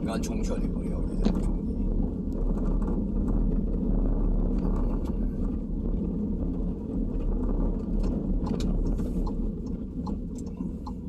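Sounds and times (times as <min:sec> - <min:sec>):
car driving heard from inside: 0:00.0 - 0:11.0.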